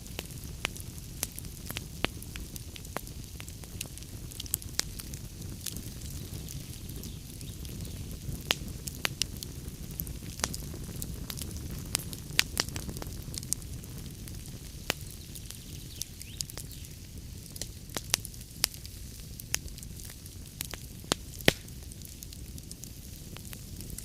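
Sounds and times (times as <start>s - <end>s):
log fire crackling: 0.0s - 24.0s
sharp pops of burning wood: 0.0s - 24.0s.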